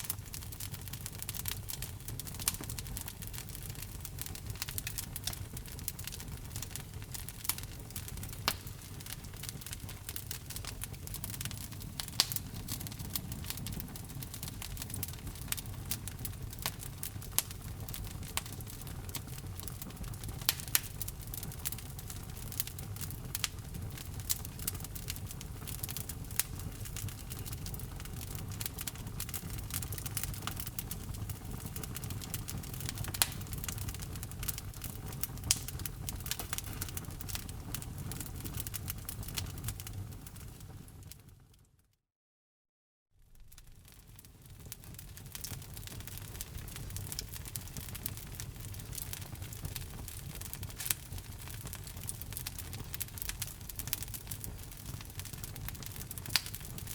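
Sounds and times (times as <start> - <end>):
wood fire crackling: 0.0 - 41.6, 43.3 - 56.9.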